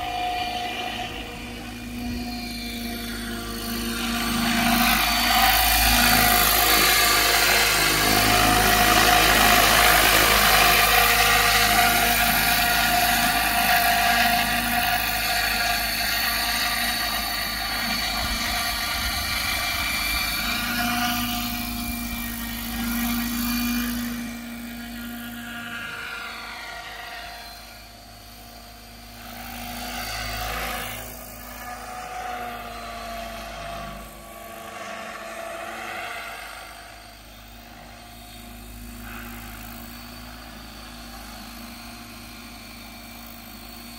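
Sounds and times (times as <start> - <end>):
model helicopter rotor whine: 0.0 - 43.9.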